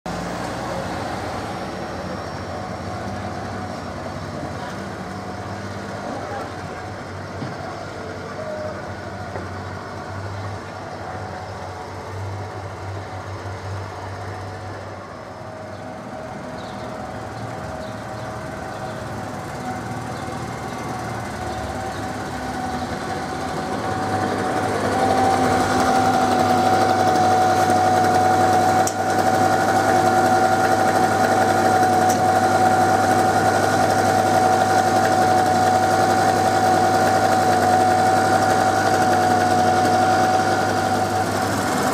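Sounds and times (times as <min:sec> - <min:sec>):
vacuum vehicle engine: 0:00.1 - 0:41.9.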